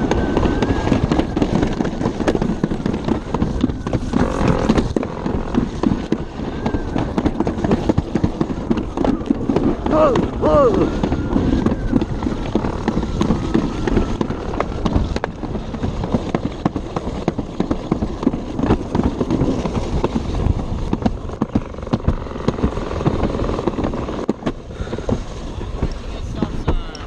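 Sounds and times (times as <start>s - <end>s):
sled clattering down a chute: 0.0s - 27.0s.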